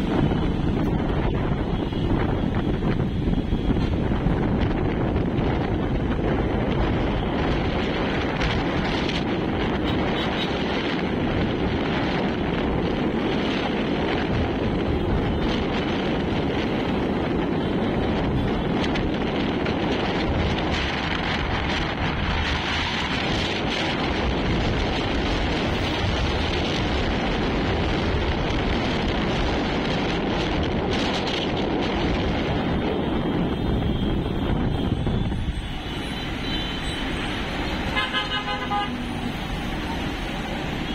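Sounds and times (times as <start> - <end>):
bus engine rumble: 0.0 - 40.9
wind buffeting microphone: 0.0 - 40.9.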